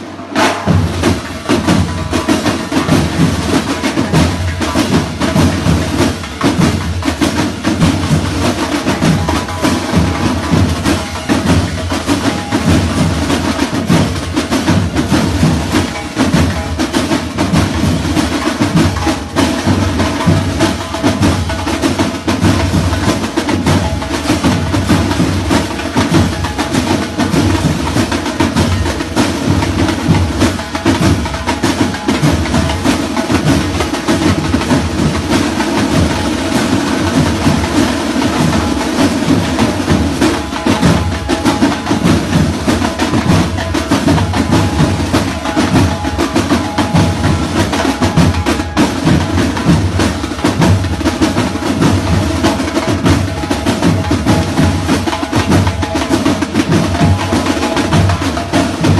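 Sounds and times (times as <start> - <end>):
band playing drum-driven music: 0.0 - 58.9.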